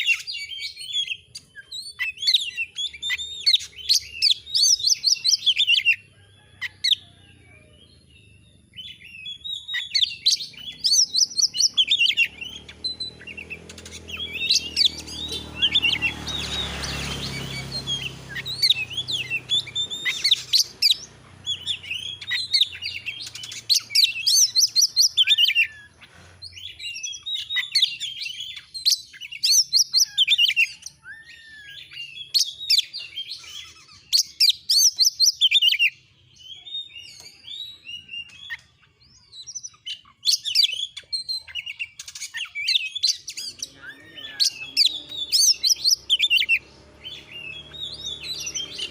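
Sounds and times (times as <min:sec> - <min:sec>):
bird singing chirps and whistles: 0:00.0 - 0:06.0, 0:07.8 - 0:48.9.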